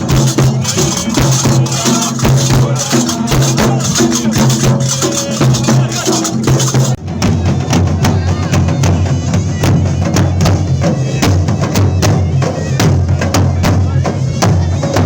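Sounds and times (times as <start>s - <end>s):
drums and hand percussion: 0.0s - 15.0s.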